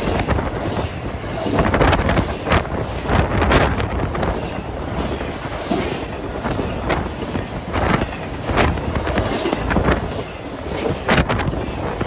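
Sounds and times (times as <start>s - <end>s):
freight train wheels rumbling: 0.0s - 12.0s
sharp clacks of train wheels: 0.0s - 12.0s.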